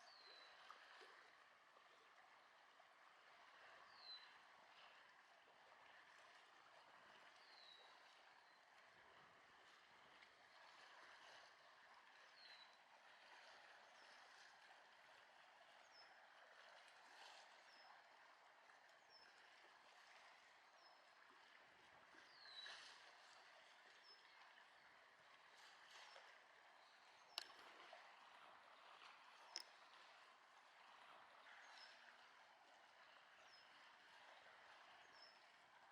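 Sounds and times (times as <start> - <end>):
faint wash of water: 0.0 - 35.9.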